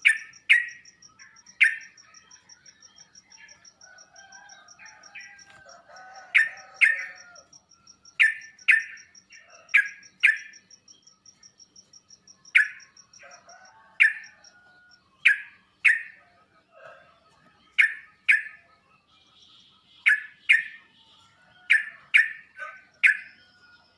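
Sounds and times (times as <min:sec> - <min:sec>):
soft bird chattering: 0:00.0 - 0:16.3, 0:17.0 - 0:18.7, 0:19.4 - 0:23.4.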